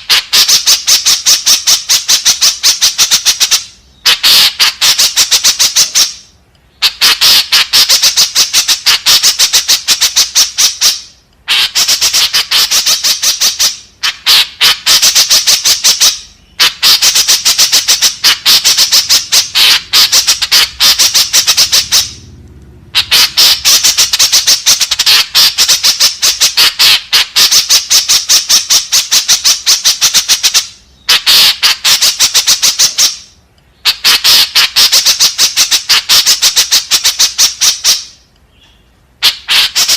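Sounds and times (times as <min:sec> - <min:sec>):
bird high chattering calls: 0:00.0 - 0:22.3, 0:22.9 - 0:39.9.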